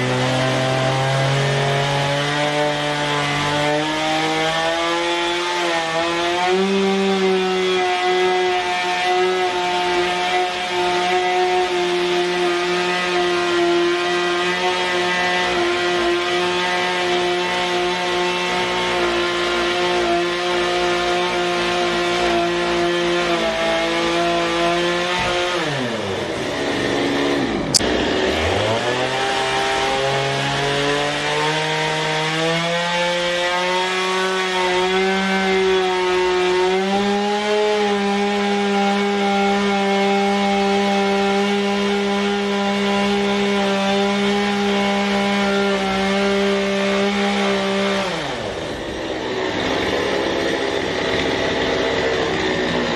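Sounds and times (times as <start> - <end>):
chainsaw cutting log: 0.0 - 52.9.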